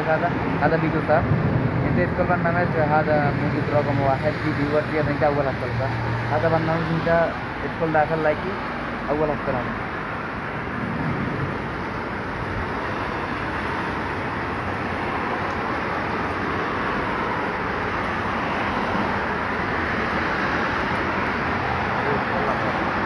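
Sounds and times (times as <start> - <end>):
heavy rain on pavement and cars: 0.0 - 23.0.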